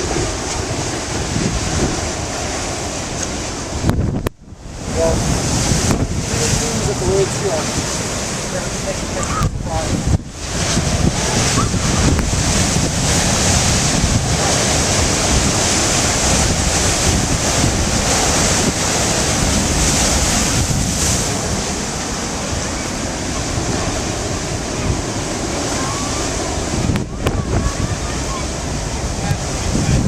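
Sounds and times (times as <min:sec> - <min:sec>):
storm surf breaking: 0:00.0 - 0:30.0
wind buffeting microphone: 0:00.0 - 0:30.0.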